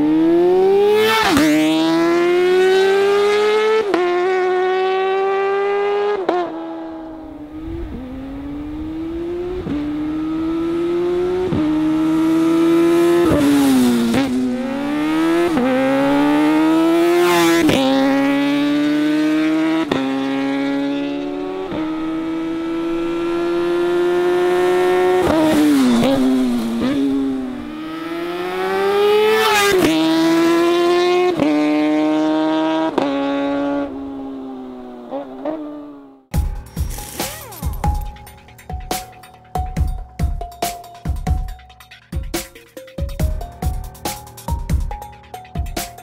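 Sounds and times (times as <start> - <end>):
motorcycle passing by: 0.0 - 39.2
motorcycle engine accelerating: 0.0 - 46.0.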